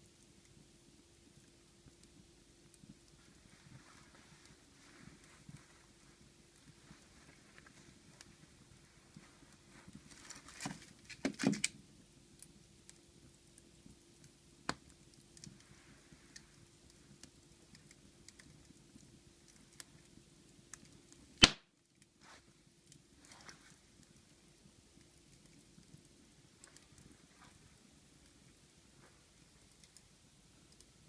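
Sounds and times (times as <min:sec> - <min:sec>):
faint steady hum: 0:00.0 - 0:31.0
wood fire crackling: 0:00.0 - 0:31.0.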